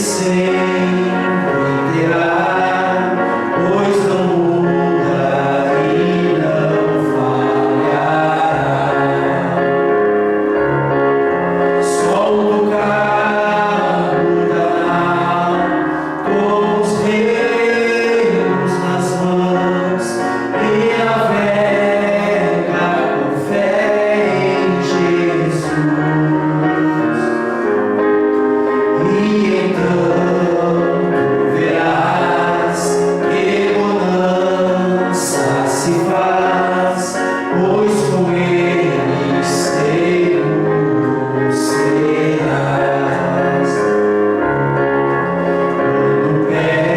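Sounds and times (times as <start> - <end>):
instrumental accompaniment: 0.0 - 46.9
voices singing a hymn in harmony: 0.0 - 46.9.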